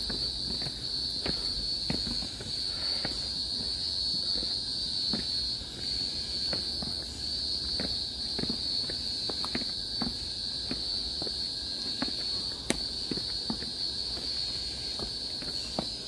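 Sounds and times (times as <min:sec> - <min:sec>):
footsteps going down steps: 0:00.0 - 0:16.0
insects droning: 0:00.0 - 0:16.0.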